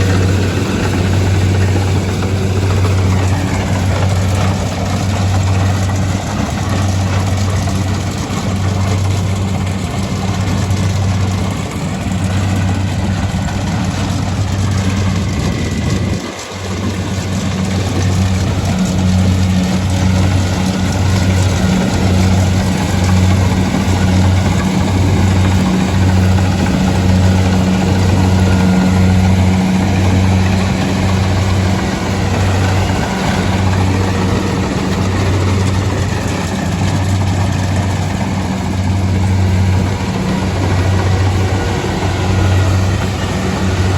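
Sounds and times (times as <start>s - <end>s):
combine harvester engine humming: 0.0s - 43.9s.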